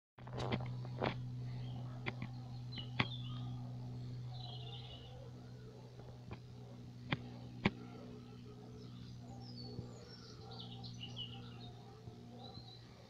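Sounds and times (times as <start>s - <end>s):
steady low hum: 0.2s - 13.0s
small birds chirping: 1.2s - 13.0s.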